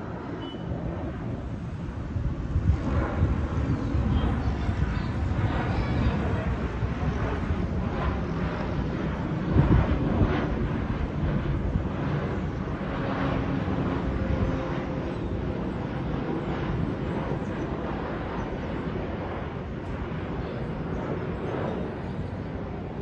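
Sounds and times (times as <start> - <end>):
jet engine rushing: 0.0 - 23.0.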